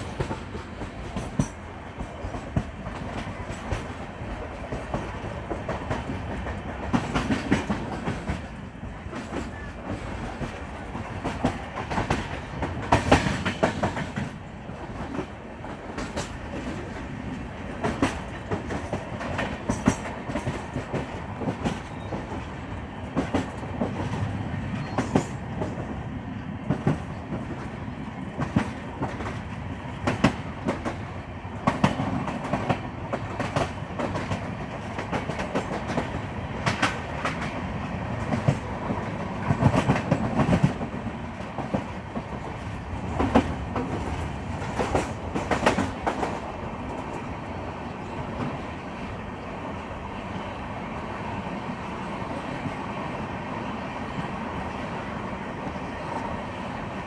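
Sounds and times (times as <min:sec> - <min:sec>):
train running on track: 0:00.0 - 0:57.0.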